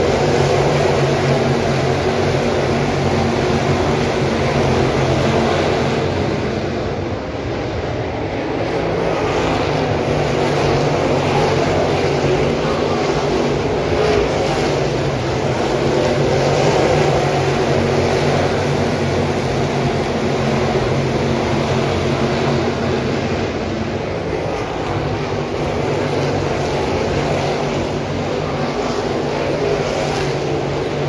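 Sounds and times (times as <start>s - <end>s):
race car engines roaring: 0.0s - 31.0s.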